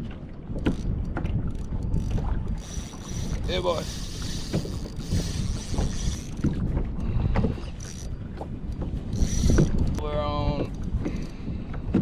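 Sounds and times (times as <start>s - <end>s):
knocks and splashes: 0.0s - 12.0s
water sloshing against hull: 0.0s - 12.0s
wind buffeting microphone: 0.0s - 12.0s.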